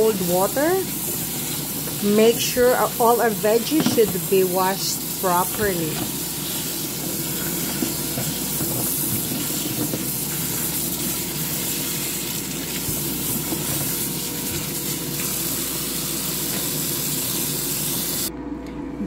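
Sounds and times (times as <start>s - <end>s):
tap water running into a sink: 0.0s - 18.3s.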